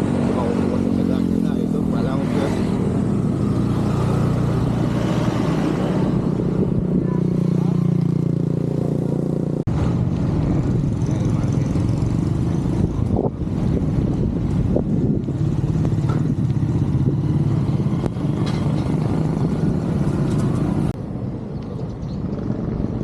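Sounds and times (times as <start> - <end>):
wind buffeting microphone: 2.7 - 8.4, 9.7 - 23.0.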